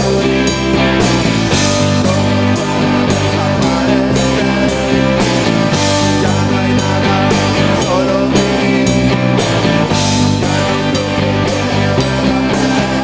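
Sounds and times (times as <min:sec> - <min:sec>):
drum kit beat: 0:00.0 - 0:13.0
electric guitars: 0:00.0 - 0:13.0
rock band playing: 0:00.0 - 0:13.0.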